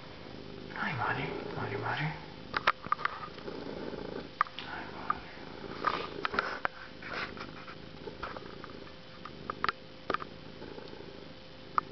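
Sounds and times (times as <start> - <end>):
cat purring: 0.0 - 11.9.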